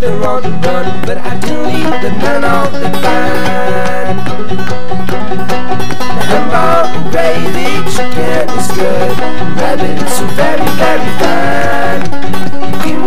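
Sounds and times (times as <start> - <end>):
clawhammer banjo playing: 0.0 - 13.0.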